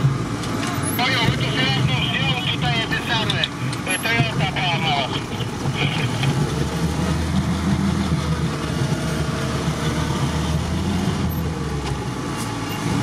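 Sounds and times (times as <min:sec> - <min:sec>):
vehicle engine droning in cab: 0:00.0 - 0:13.0.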